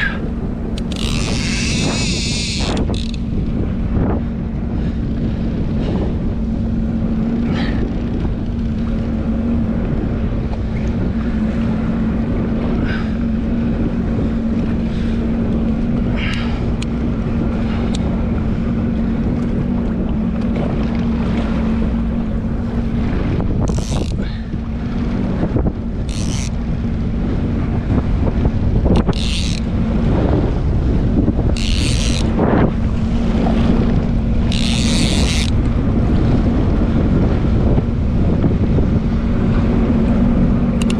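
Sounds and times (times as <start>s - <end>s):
jet ski engine running: 0.0s - 40.9s
wind buffeting microphone: 0.0s - 40.9s
water splashes: 7.2s - 40.9s.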